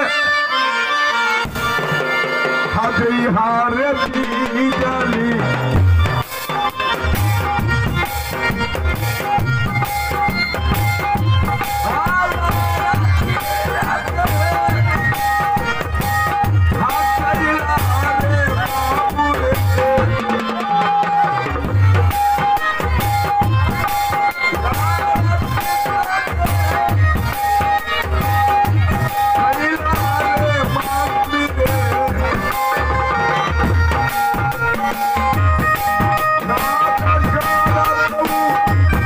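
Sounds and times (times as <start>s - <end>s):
instrumental music: 0.0s - 39.0s
hand drum beat: 4.1s - 39.0s.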